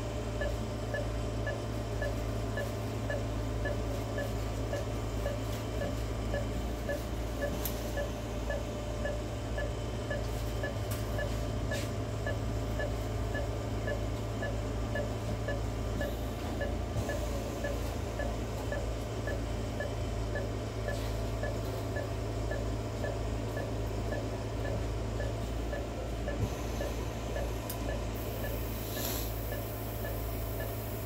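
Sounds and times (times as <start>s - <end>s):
low equipment hum: 0.0s - 31.0s
monitor beeping: 0.3s - 31.0s.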